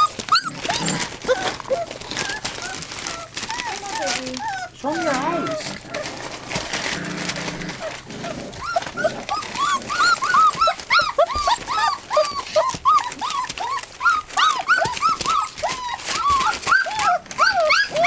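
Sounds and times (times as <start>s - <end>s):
puppies whining and whimpering: 0.0s - 18.0s.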